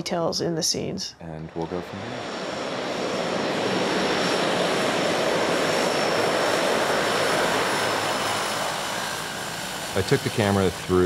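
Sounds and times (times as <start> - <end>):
high turbine whine: 1.3 - 11.0
propeller plane engine noise: 1.4 - 11.0.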